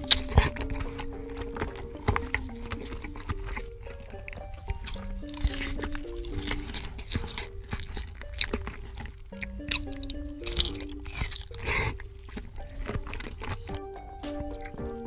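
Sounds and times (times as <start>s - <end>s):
background music: 0.0s - 15.0s
wet chewing and mouth clicks: 0.0s - 15.0s.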